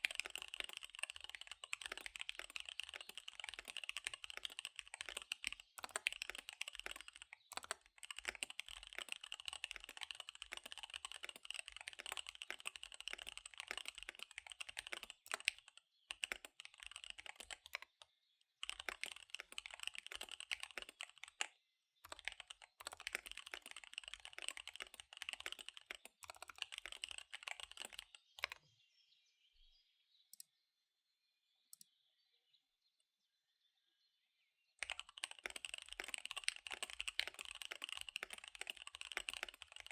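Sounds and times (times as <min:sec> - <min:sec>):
fast typing on mechanical keyboard: 0:00.0 - 0:18.0, 0:18.6 - 0:28.6, 0:34.8 - 0:39.9.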